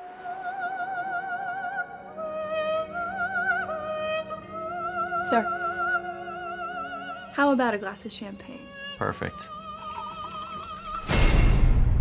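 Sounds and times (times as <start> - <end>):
operatic singing: 0.0 - 12.0.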